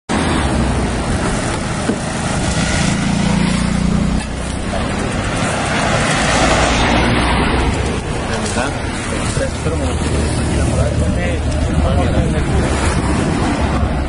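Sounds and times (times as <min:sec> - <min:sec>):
vehicle engines droning: 0:00.1 - 0:14.0.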